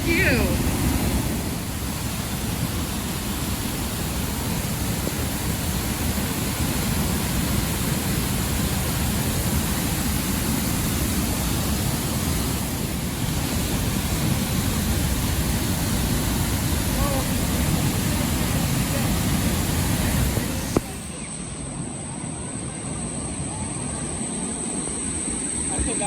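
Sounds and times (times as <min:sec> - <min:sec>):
waterfall roaring: 0:00.0 - 0:21.2.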